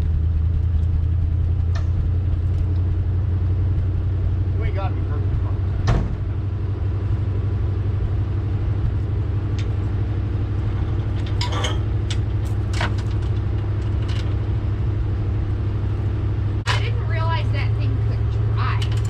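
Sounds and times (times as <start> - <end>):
engine idling with deep rumble: 0.0 - 19.0.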